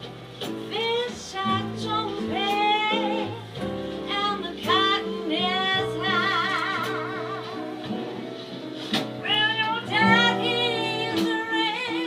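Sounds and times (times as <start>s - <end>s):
acoustic guitar: 0.0s - 12.0s
woman singing into a microphone: 0.6s - 8.0s, 9.2s - 12.0s.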